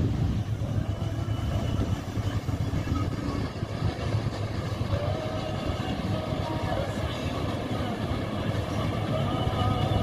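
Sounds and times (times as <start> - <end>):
motorboat engines rumbling: 0.0 - 10.0
wind buffeting microphone: 0.0 - 10.0.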